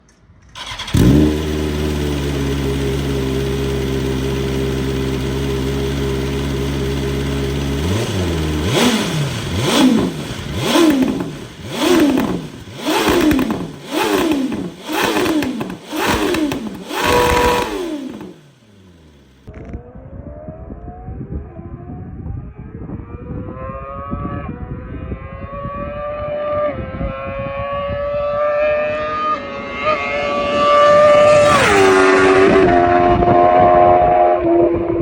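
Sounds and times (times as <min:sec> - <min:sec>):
motorcycle engine idling and revving: 0:00.1 - 0:35.0.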